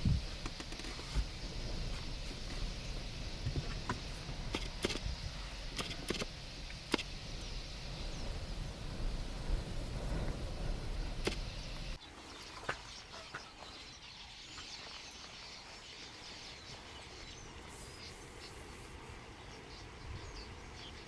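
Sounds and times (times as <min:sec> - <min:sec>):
flock of birds chirping: 0:00.0 - 0:21.0.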